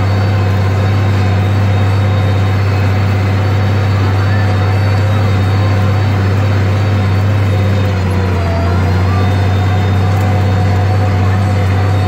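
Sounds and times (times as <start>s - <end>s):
tractor diesel engine drone: 0.0s - 12.0s.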